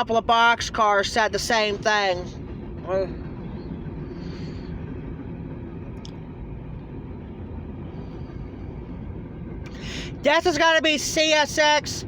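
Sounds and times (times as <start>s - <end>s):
freight train cars rolling: 0.0s - 12.0s.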